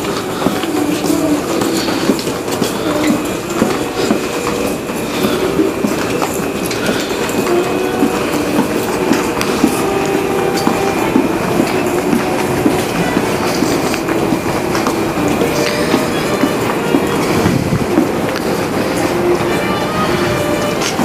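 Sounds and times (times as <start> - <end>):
footsteps: 0.0 - 21.0.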